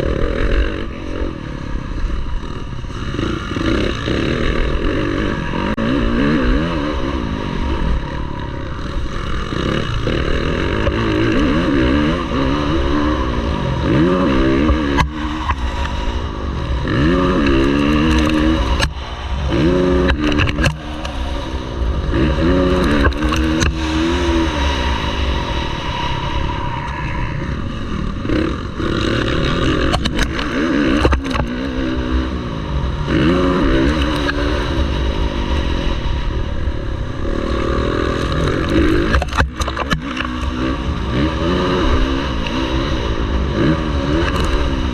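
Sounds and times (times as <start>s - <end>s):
motocross engine revving: 0.0s - 44.9s.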